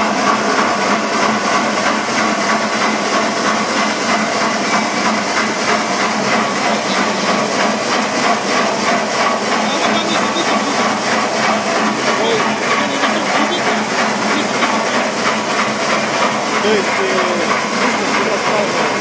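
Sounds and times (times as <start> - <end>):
air nozzle spraying oil mist: 1.0 - 19.0.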